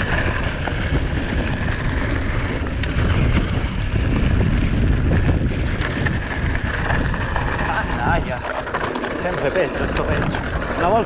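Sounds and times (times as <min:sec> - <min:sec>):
bike tyres rumbling over trail: 0:00.0 - 0:11.0
wind on microphone: 0:00.0 - 0:11.0.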